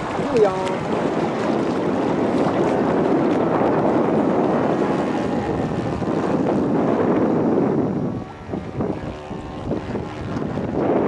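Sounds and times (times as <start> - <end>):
model plane propellers droning: 0.0 - 11.0
wind noise on microphone: 0.0 - 11.0.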